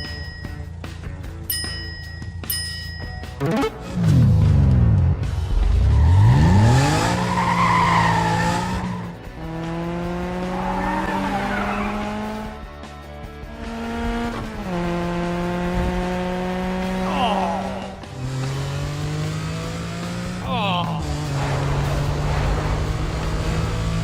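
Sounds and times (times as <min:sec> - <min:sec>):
cartoon car engine revving: 0:03.4 - 0:12.6, 0:13.6 - 0:24.0.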